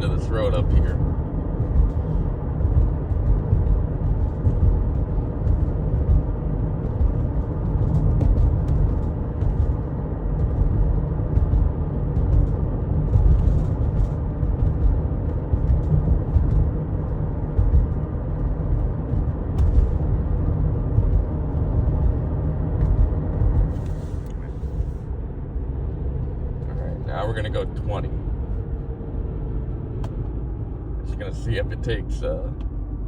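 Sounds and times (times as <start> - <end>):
car engine rumble: 0.0 - 33.0
tyres on road: 0.0 - 33.0.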